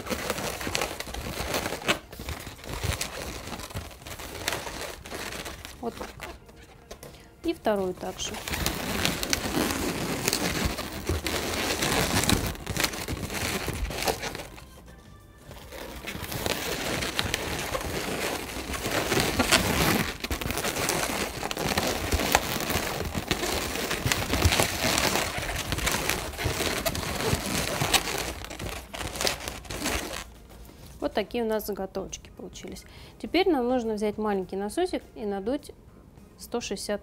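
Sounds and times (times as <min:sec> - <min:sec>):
balloons squeaking and rubbing: 0:00.0 - 0:30.4
crinkly handling noise: 0:00.0 - 0:31.3.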